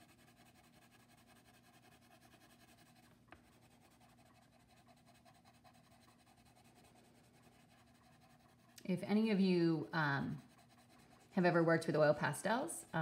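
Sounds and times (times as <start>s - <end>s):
low steady hum: 0.0s - 13.0s
pencil scratching on paper: 0.0s - 13.0s.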